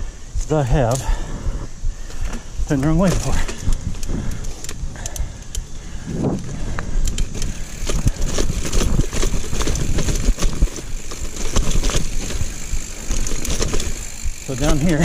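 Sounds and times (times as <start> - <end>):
bike tyres rumbling on dirt: 0.0 - 15.0
wind buffeting microphone: 0.0 - 15.0
bike clattering and rattling: 2.0 - 15.0.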